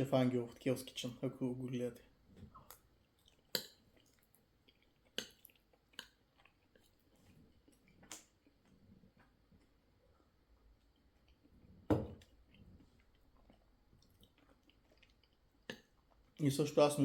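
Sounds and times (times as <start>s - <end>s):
faint chewing: 1.9s - 16.5s.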